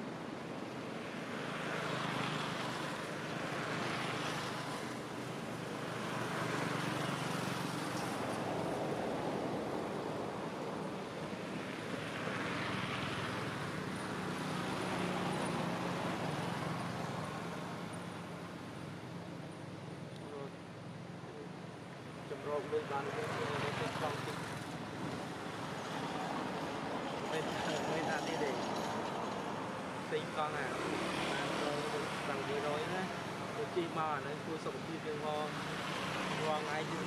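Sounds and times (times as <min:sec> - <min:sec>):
rushing outdoor background noise: 0:00.0 - 0:37.0.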